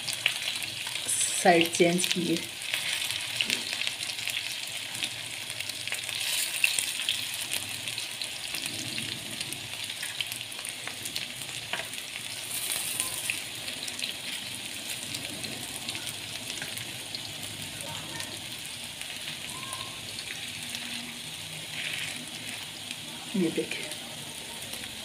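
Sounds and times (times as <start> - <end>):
meat sizzling in oil: 0.0 - 25.0.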